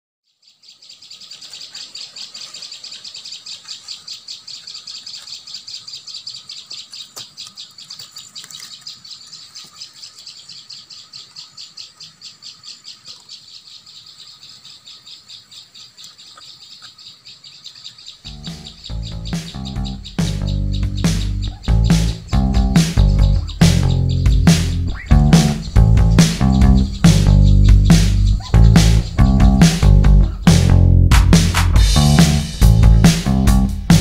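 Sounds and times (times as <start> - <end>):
bird chirping rapidly: 0.3 - 34.0.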